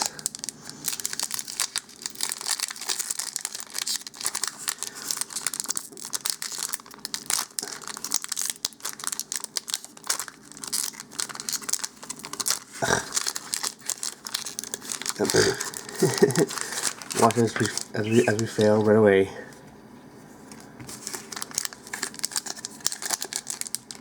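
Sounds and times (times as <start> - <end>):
foil ripping: 0.0 - 19.0, 20.9 - 24.0
foil wrappers crinkling: 0.0 - 19.3, 20.5 - 24.0.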